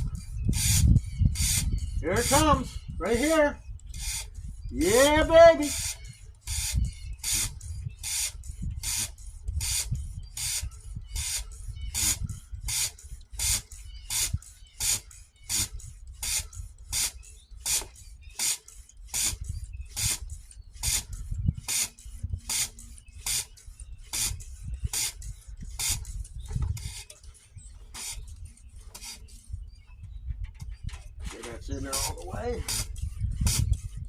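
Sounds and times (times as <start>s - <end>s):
hand pump hissing strokes: 0.5s - 29.4s, 31.3s - 34.0s.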